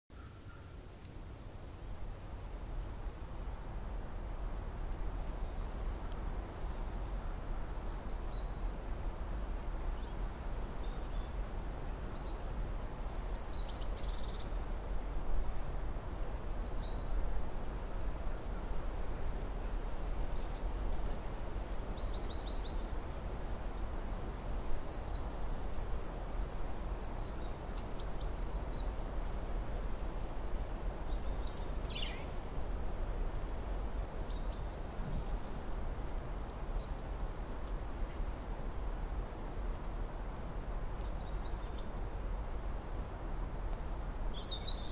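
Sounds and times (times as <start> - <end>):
small birds chirping: 3.8 - 38.3, 39.0 - 44.9.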